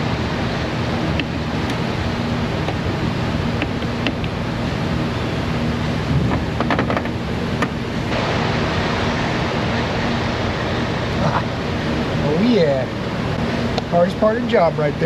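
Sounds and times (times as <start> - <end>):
low hum: 0.0 - 15.0
steady wind-like rushing noise: 0.0 - 15.0.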